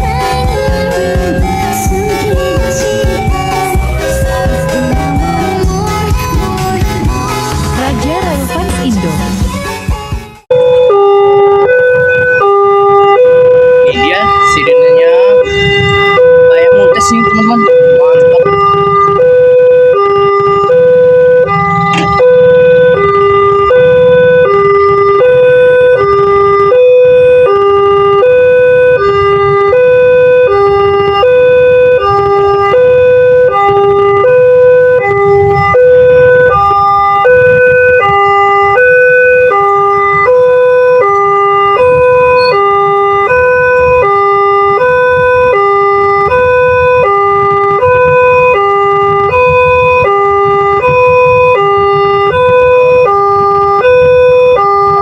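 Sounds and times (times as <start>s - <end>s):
low rumble: 0.0s - 9.7s, 11.4s - 51.6s
two-tone level crossing siren: 0.0s - 9.8s, 10.4s - 55.0s.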